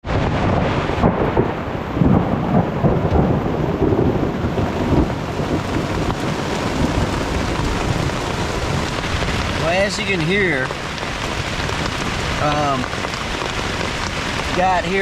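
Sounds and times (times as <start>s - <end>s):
heavy rain on a tent: 0.0s - 15.0s
thunder rumbling: 0.0s - 15.0s.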